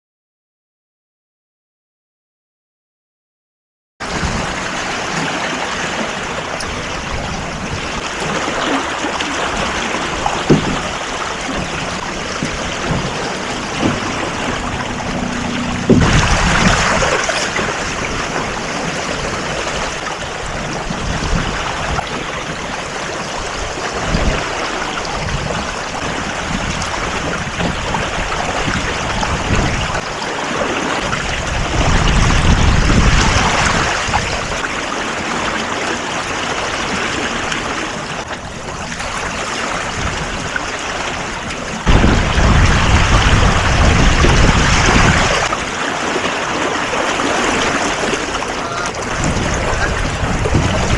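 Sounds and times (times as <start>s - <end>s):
water splashing along boat hull: 4.0s - 50.9s
wind noise on microphone: 4.0s - 50.9s.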